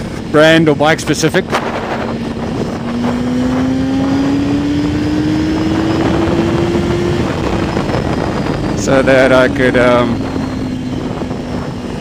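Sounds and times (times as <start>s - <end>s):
motorcycle engine accelerating: 0.0s - 12.0s
wind and road noise: 0.0s - 12.0s.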